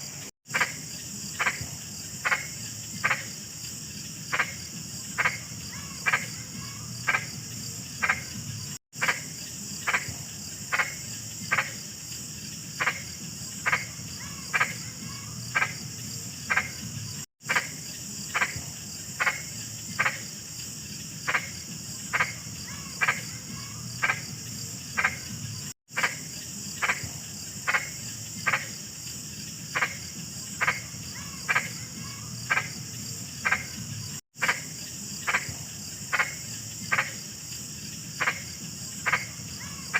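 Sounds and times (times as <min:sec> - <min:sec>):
frog croaking: 0:00.0 - 0:12.0, 0:12.7 - 0:39.9
insect chorus: 0:00.0 - 0:39.9.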